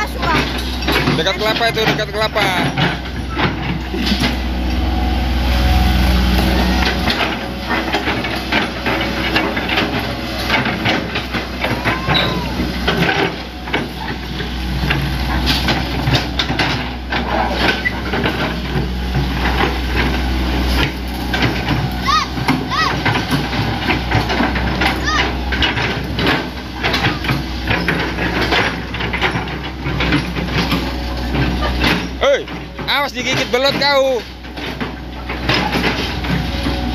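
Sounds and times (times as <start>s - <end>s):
machine clanks and knocks: 0.0s - 5.1s, 5.8s - 36.9s
diesel engine humming: 0.0s - 36.9s.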